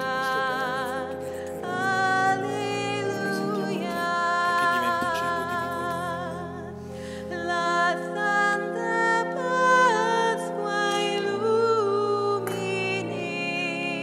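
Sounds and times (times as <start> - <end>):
person singing with vibrato: 0.0 - 14.0
sustained accompanying chords: 0.0 - 14.0.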